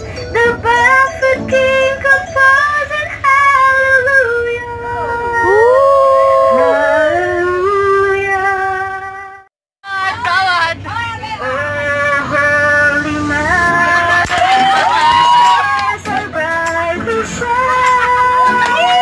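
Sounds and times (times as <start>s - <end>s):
woman singing into a microphone: 0.0s - 14.7s, 15.4s - 19.0s.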